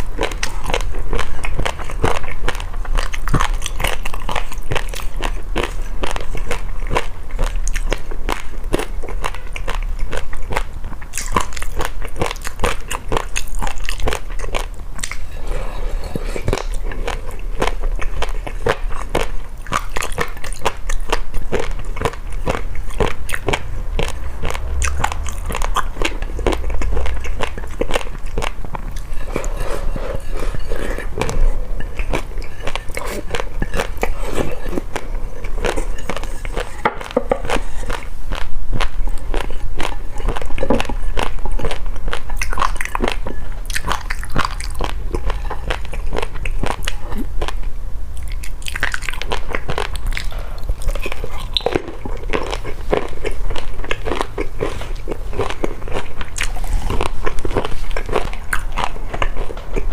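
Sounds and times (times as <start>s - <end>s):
crunchy eating and chewing: 0.0s - 59.9s.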